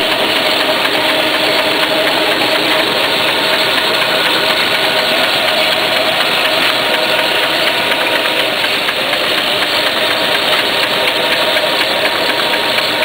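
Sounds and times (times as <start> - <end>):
dense mechanical machine noise: 0.0 - 13.0
fast fine ticking of sheets: 0.0 - 13.0.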